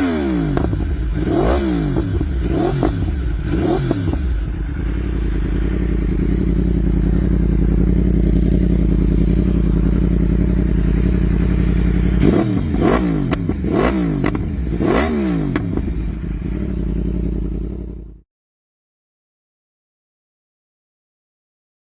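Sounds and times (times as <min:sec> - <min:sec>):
motorcycle engine idling and revving: 0:00.0 - 0:18.2.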